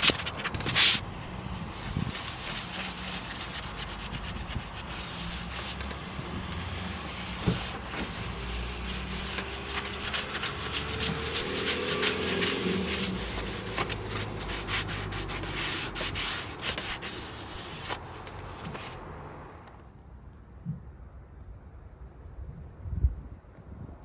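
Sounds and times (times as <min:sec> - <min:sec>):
tool scraping horse hoof: 0:00.0 - 0:19.8.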